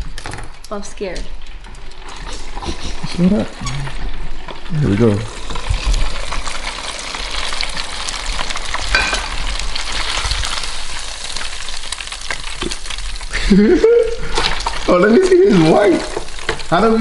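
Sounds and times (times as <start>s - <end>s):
battered chicken sizzling in oil: 2.9s - 17.0s.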